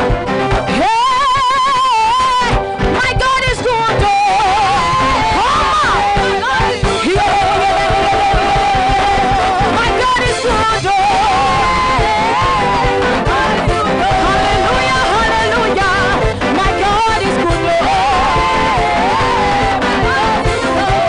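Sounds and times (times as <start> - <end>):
instrumental accompaniment: 0.0 - 21.0
women singing gospel: 3.2 - 21.0.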